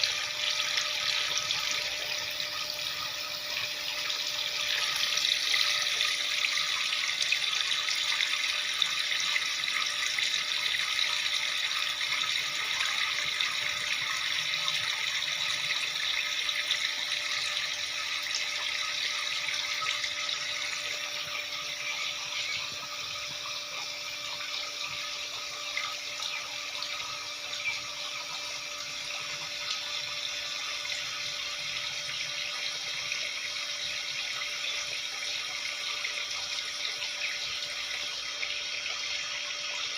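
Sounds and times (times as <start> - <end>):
faint steady hum: 0.0 - 39.9
water splashing in small fountain: 0.0 - 39.9.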